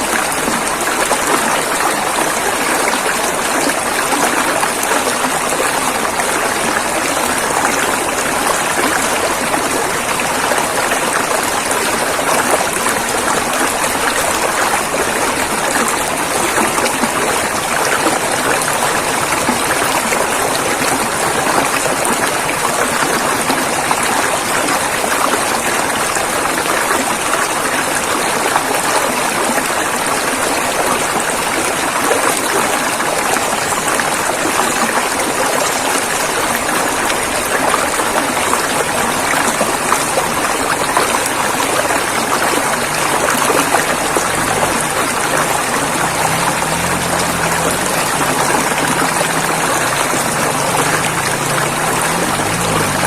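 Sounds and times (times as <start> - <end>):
river rapids rushing: 0.0 - 53.0.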